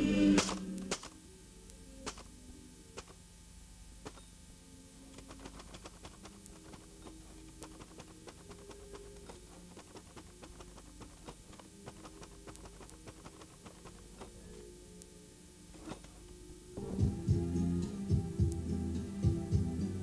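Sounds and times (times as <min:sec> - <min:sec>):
low steady hum: 0:00.0 - 0:20.0
music: 0:00.0 - 0:20.0
faint clicking and ticking: 0:00.4 - 0:19.9.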